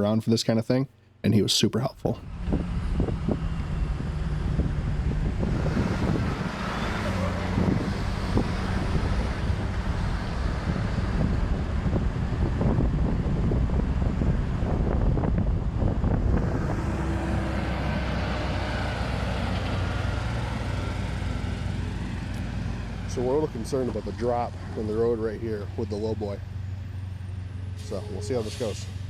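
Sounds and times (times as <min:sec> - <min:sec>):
truck engine running: 0:02.2 - 0:29.0.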